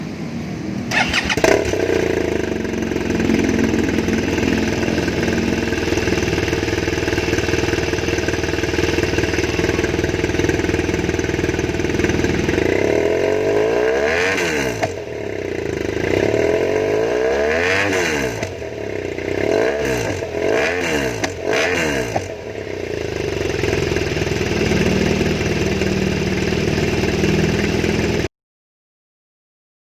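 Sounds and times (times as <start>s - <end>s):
motorcycle engine revving: 0.0s - 28.3s
motorcycle engine idling: 0.2s - 17.6s, 18.3s - 28.3s.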